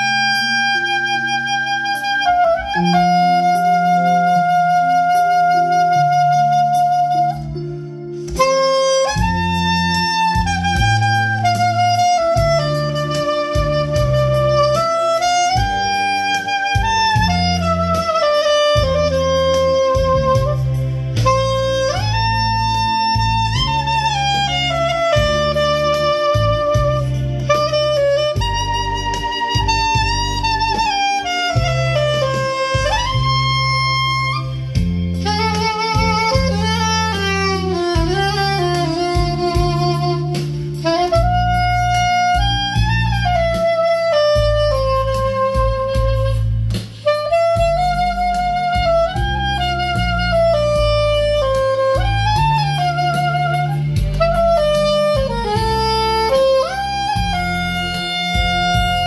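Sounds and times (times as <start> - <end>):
backing track with bass and chords: 0.0 - 59.0
soprano saxophone melody: 0.0 - 59.0.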